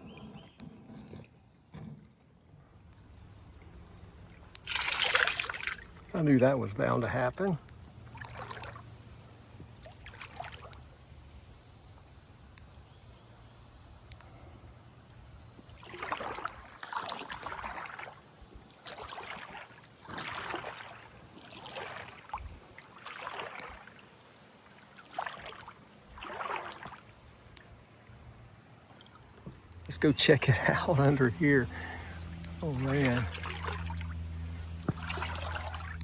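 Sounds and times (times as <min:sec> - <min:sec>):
paddle swishing through water: 0:02.4 - 0:11.6, 0:15.6 - 0:36.0.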